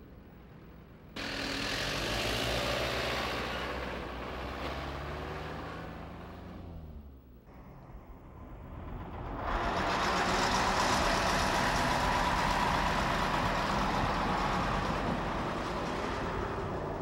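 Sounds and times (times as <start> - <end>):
dump truck engine and tyres: 0.0 - 17.0.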